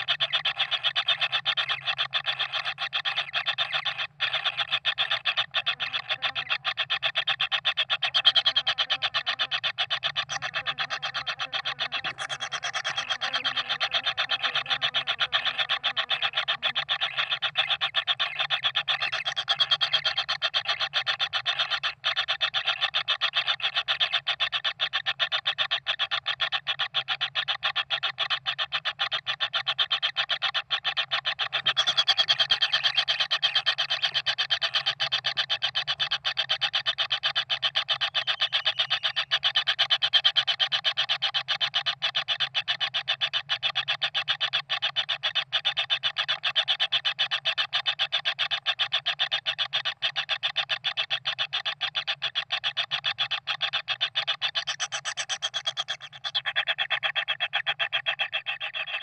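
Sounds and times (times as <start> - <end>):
bird chicks rasping buzz: 0.0 - 59.0.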